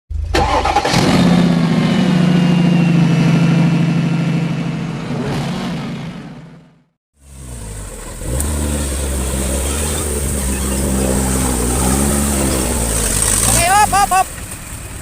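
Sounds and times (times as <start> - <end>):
engine at high revs: 0.4 - 14.4.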